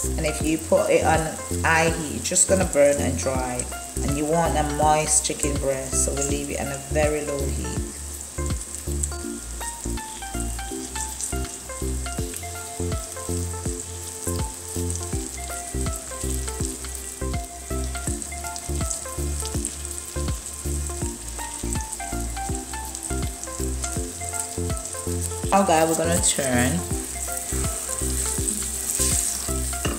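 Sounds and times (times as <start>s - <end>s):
background music with steady beat: 0.0s - 29.9s
chicken sizzling in oil: 0.0s - 29.9s.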